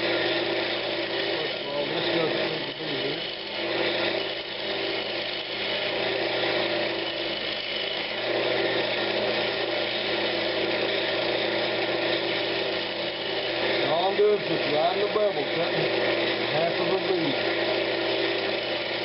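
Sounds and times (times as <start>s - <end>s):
turning tool cutting wood: 0.0s - 19.0s
wood lathe motor hum: 0.0s - 19.0s.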